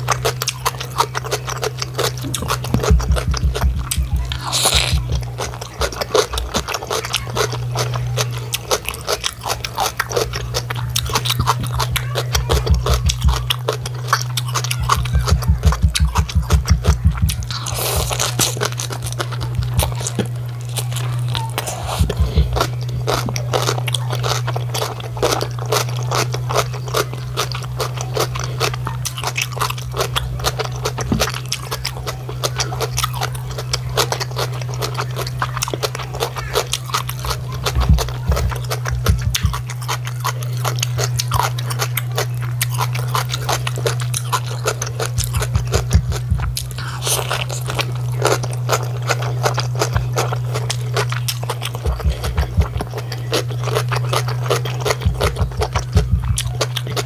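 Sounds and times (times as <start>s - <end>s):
crunching and chewing cabbage: 0.0s - 57.0s
steady low hum: 0.0s - 57.0s.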